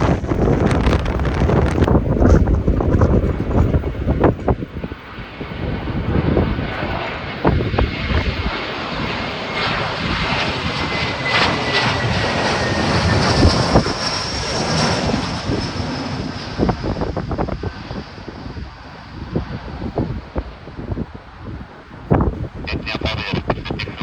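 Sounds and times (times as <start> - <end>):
jet airliner passing overhead: 0.0 - 24.0
wind buffeting microphone: 0.0 - 24.0.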